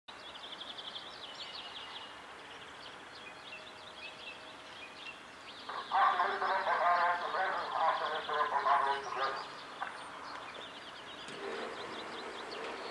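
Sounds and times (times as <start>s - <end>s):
faint outdoor background noise: 0.1s - 12.9s
songbirds twittering: 0.1s - 12.9s.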